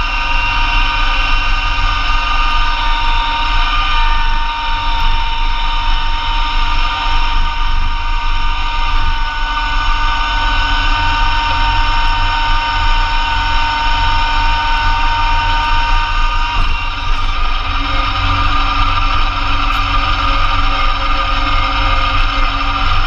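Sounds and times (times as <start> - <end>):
diesel tractor engine rumble: 0.0 - 23.0
snowblower whine: 0.0 - 23.0.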